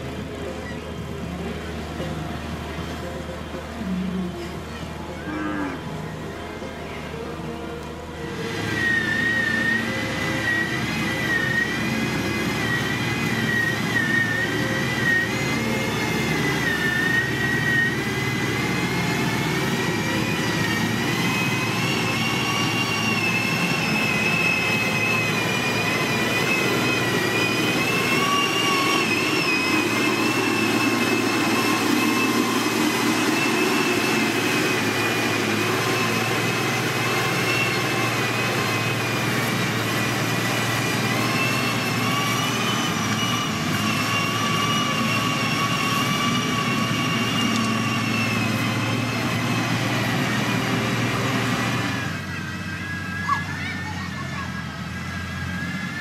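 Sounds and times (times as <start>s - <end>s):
high whine varying in pitch: 0.0s - 53.6s
diesel engine running under load: 0.0s - 56.0s.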